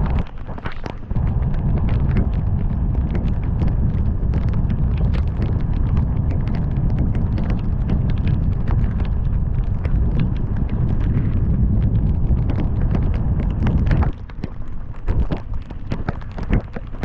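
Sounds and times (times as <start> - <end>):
raindrops ticking on car: 0.0 - 17.0
wind and tyre rumble: 0.0 - 17.0.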